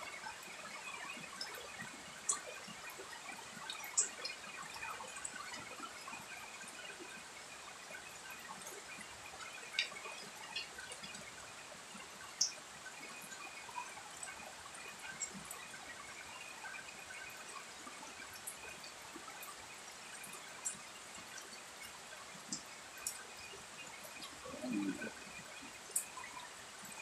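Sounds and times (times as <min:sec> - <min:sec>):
rain on foliage: 0:00.0 - 0:27.0.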